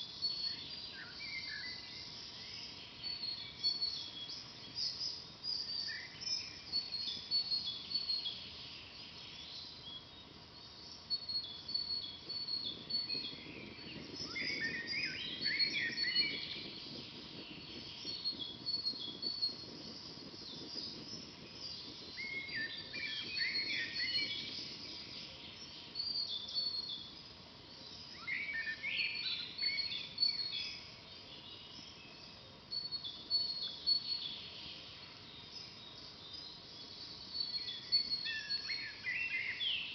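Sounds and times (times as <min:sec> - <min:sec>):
bird warbling song: 0:00.0 - 0:39.9
songbirds chirping: 0:00.0 - 0:39.9.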